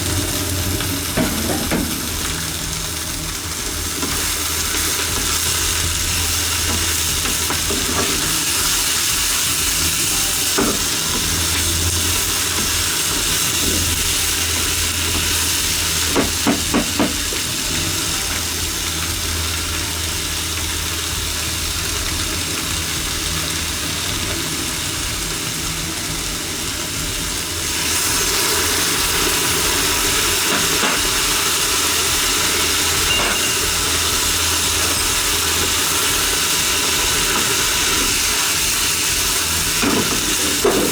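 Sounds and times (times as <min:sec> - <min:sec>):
vegetables sizzling in a pan: 0:00.0 - 0:40.9.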